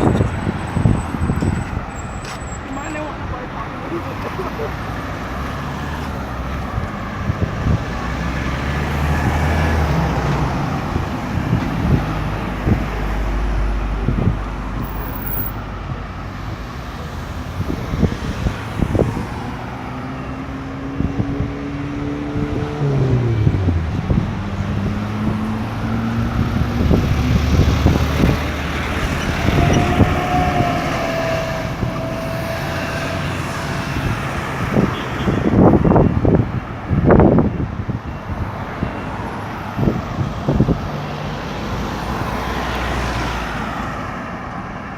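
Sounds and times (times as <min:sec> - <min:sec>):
road traffic passing: 0:00.0 - 0:44.9.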